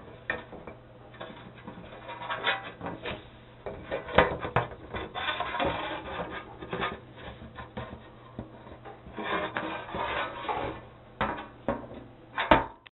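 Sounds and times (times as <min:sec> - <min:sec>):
rubbing and scraping: 0:00.0 - 0:11.6.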